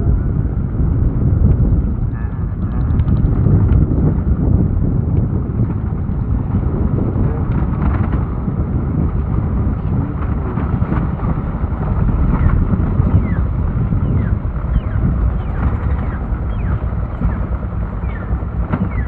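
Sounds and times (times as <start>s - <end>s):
moving vehicle running noise: 0.0s - 19.0s
wind rumble on microphone: 0.0s - 19.0s.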